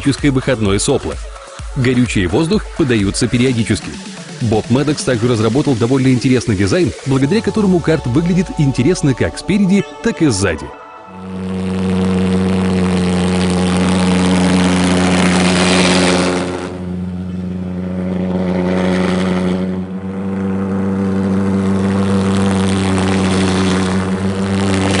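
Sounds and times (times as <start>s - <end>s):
pulsejet engine buzzing drone: 0.0s - 25.0s.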